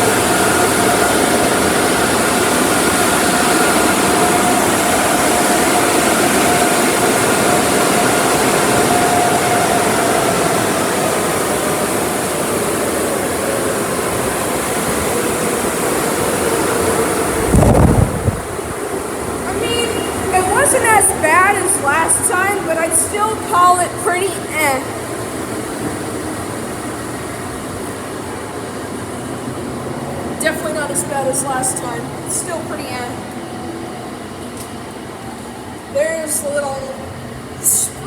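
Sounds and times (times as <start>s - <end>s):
air dryer blowers rushing: 0.0s - 33.0s.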